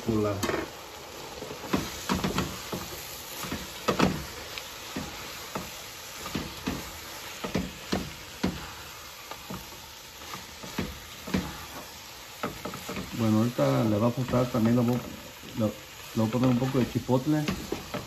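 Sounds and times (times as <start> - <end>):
low steady sizzle: 0.0 - 18.0
spatula scraping frying pan: 0.3 - 18.0.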